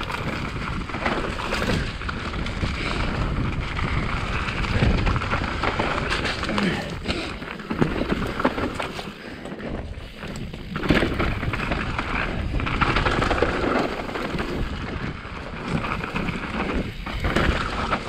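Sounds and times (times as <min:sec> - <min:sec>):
bike knocking and clattering: 0:00.0 - 0:18.0
bike tyres rumbling on dirt: 0:00.0 - 0:18.0.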